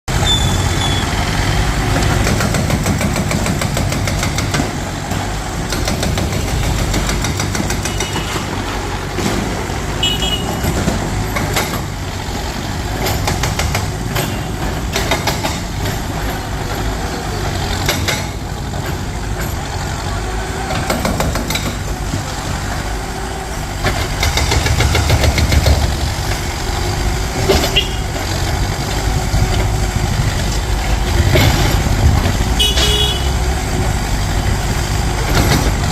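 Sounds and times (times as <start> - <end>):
heavy diesel machinery running: 0.1 - 35.9.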